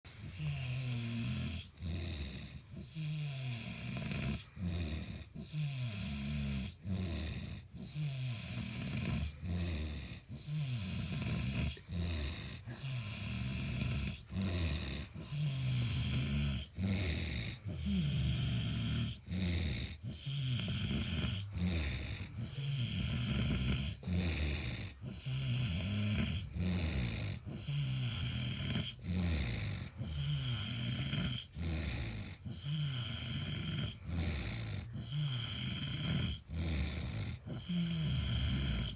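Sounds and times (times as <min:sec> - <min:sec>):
loud snoring: 0:00.1 - 0:38.9.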